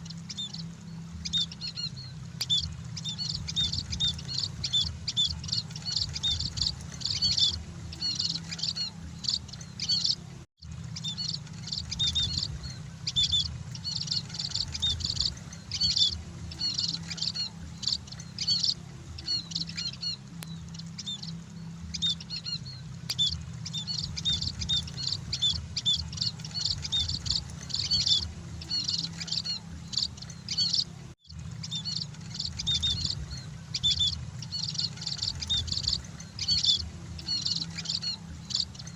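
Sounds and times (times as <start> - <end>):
birds chirping in high twitters: 0.0 - 38.9
steady low hum: 0.0 - 38.9.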